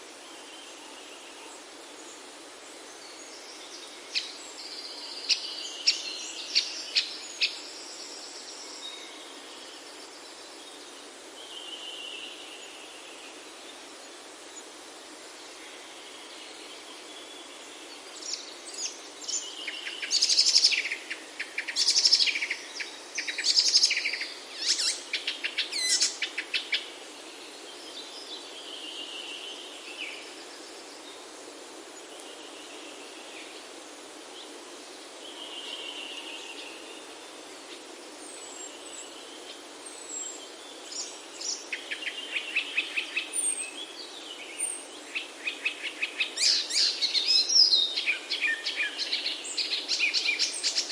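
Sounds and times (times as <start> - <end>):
outdoor ambient hiss: 0.0 - 50.9
songbirds singing: 0.1 - 50.9.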